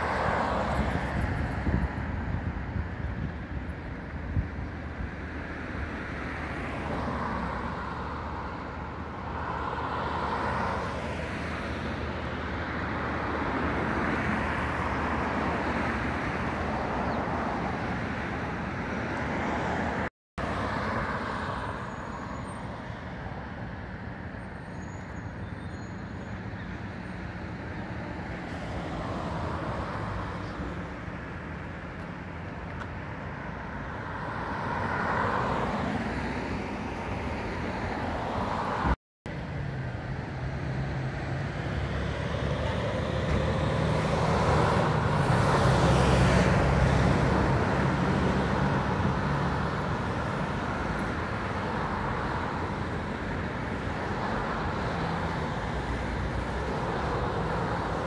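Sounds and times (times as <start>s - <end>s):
traffic background hum: 0.0s - 58.0s
vehicles passing: 0.0s - 58.0s.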